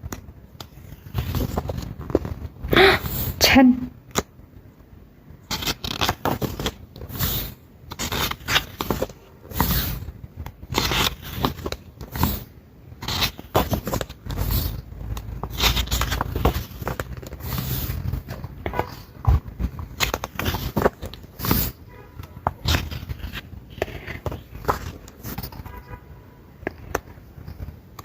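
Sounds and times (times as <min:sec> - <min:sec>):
packaging scraping and rustling: 0:00.6 - 0:03.4, 0:05.4 - 0:26.0.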